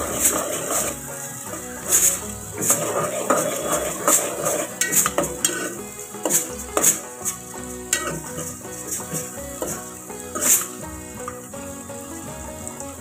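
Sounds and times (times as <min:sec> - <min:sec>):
metal spoon scraping metal pot: 0:00.0 - 0:11.7.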